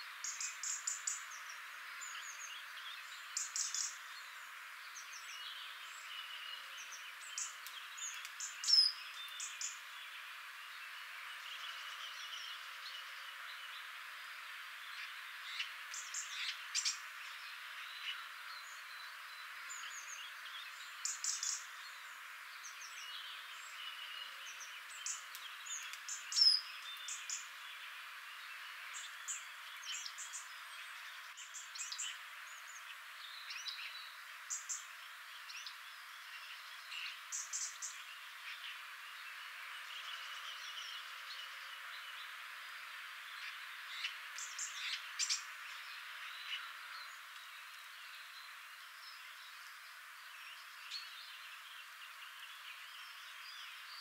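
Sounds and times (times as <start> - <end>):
steady hiss: 0.0 - 54.0
birds chirping and singing: 0.2 - 14.0, 14.8 - 42.4, 43.2 - 54.0.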